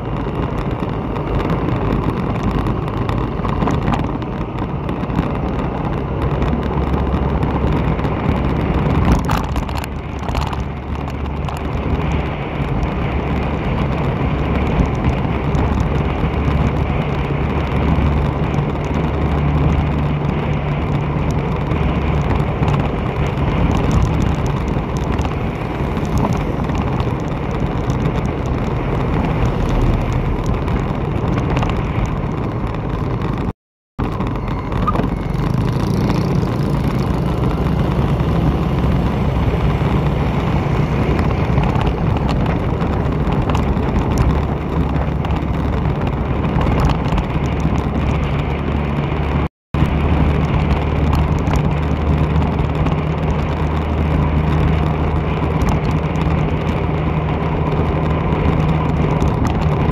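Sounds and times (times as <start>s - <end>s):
road and wind noise: 0.0s - 59.9s
vehicle engine hum: 0.0s - 59.9s.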